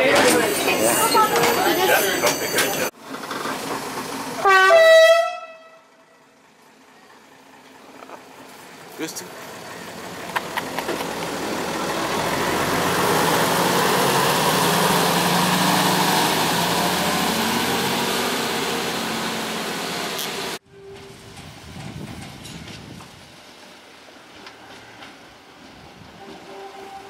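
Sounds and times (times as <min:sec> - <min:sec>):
diesel train passing: 0:00.0 - 0:27.0.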